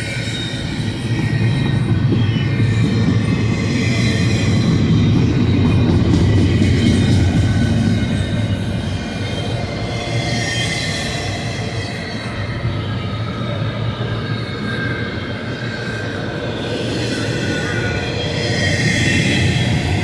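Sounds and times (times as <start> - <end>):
freight train wheels rumbling on rail: 0.0 - 20.0
high-pitched wheel squeal: 0.0 - 20.0.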